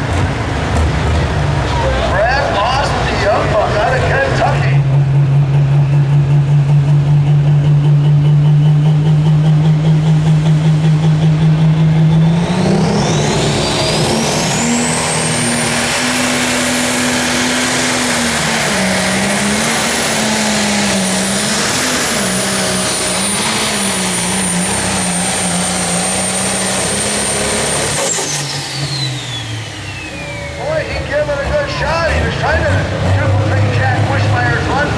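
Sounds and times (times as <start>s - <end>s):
diesel engine revving: 0.0s - 34.9s
high turbo whine: 0.0s - 34.9s.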